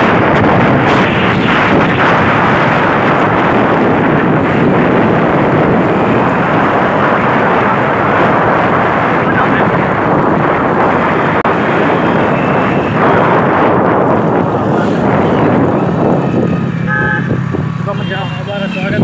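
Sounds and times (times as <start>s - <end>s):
wind on microphone: 0.0s - 17.8s
vehicle on wet road: 0.0s - 19.0s.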